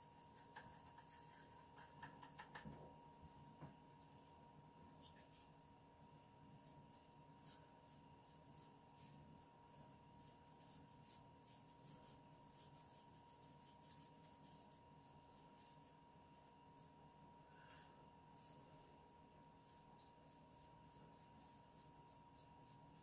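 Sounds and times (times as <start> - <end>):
brush scratching on paper: 0.0 - 2.7, 4.0 - 23.0.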